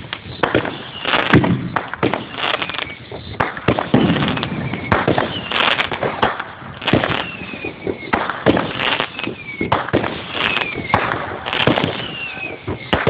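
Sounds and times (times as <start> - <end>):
firework whistles falling in pitch: 0.0 - 13.0
fireworks bangs and crackles: 0.0 - 13.0.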